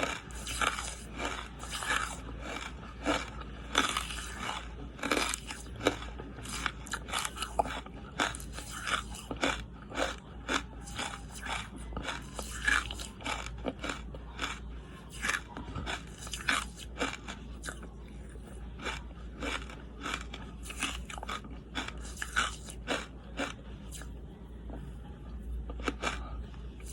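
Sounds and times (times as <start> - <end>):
charcoal crunching when chewed: 0.0 - 26.9
steady low hum: 0.0 - 26.9.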